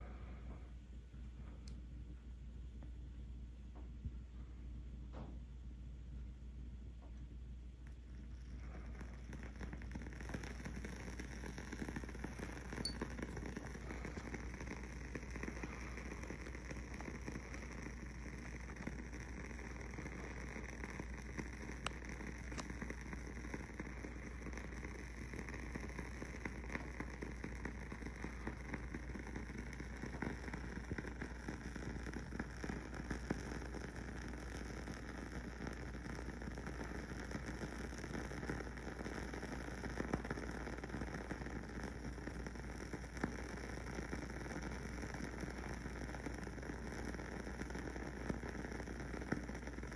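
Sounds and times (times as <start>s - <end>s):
candle wick crackling: 7.2s - 49.9s.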